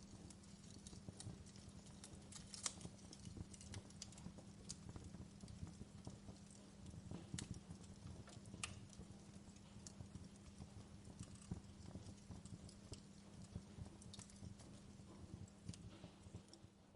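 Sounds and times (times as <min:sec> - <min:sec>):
fire crackling and popping: 0:00.0 - 0:16.9.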